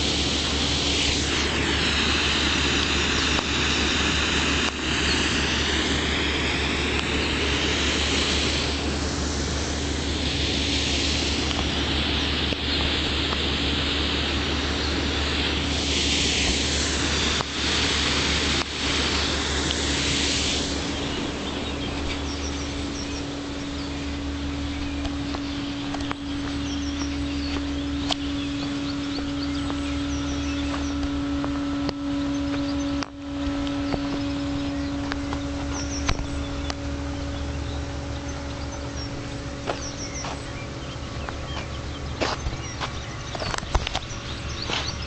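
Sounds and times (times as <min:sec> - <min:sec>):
motor pump engine running: 0:00.0 - 0:45.0
small birds chirping: 0:00.3 - 0:45.0.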